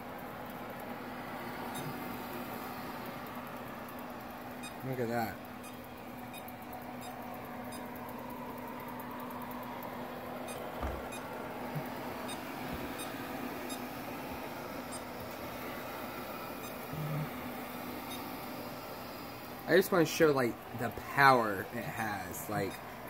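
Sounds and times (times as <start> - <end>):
robot vacuum humming: 0.0 - 23.0.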